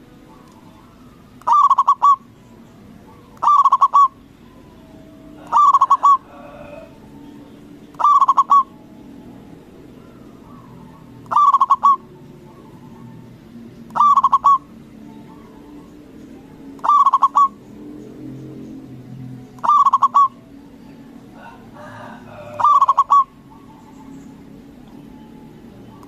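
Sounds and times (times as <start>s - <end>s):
dove cooing: 0.0s - 18.8s, 19.6s - 26.0s.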